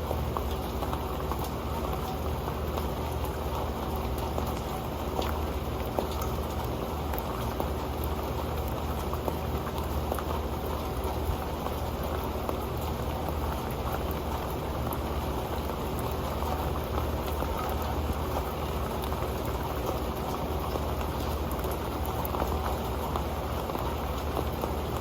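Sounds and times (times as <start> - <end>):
rain pattering on a pan: 0.0 - 25.0.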